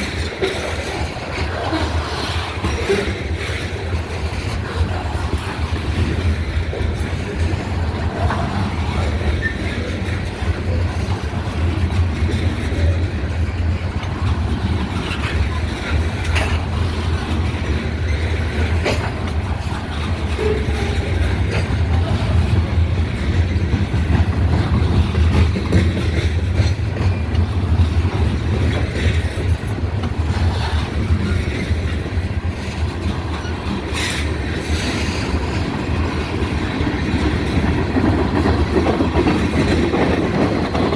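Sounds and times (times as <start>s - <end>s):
freight train cars rolling: 0.0s - 40.9s
train wheels clicking over rail joints: 0.0s - 40.9s
wind rumble on microphone: 0.0s - 40.9s.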